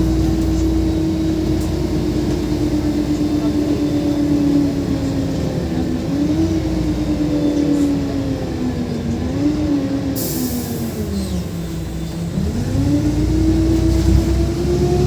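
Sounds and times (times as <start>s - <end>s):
city bus engine humming: 0.0s - 15.0s.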